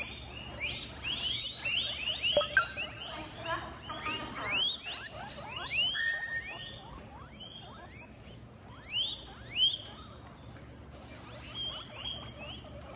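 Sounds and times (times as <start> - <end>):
guinea pig wheeking: 0.0 - 12.9.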